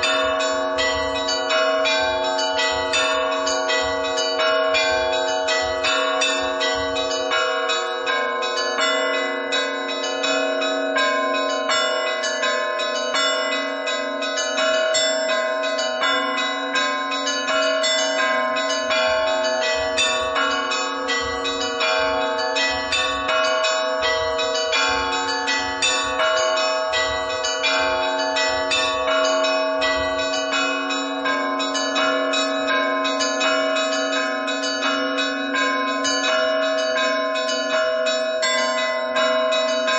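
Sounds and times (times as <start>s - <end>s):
large church bells ringing: 0.0s - 39.9s
small church bells striking quickly: 0.0s - 39.9s.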